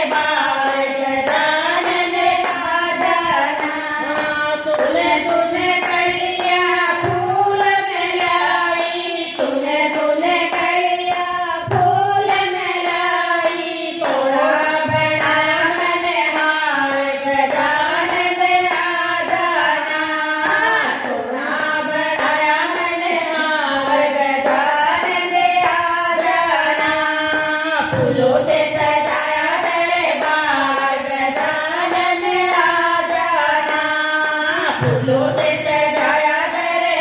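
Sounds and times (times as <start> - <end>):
hand claps: 0.0 - 8.8, 9.4 - 37.0
women singing devotional song: 0.0 - 37.0.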